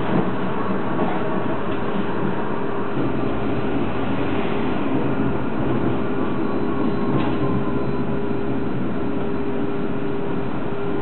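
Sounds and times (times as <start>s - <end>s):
tram wheels and motor rumbling: 0.0s - 11.0s.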